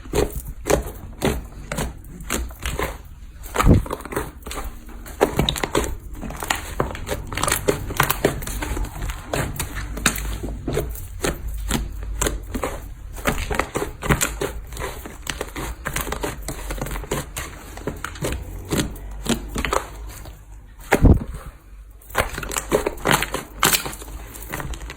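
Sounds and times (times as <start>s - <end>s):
slime crackling and popping: 0.0s - 21.4s, 22.1s - 24.9s.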